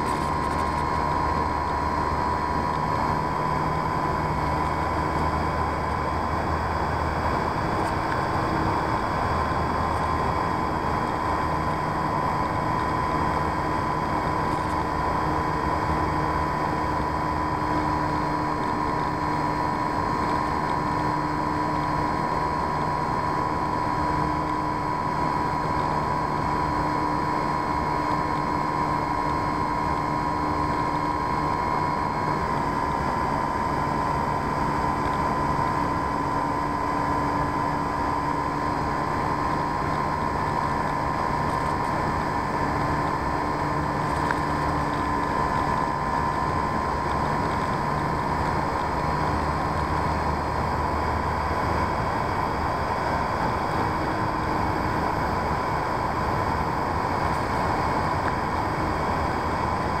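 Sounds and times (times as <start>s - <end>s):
model plane propeller whine: 0.0s - 60.0s.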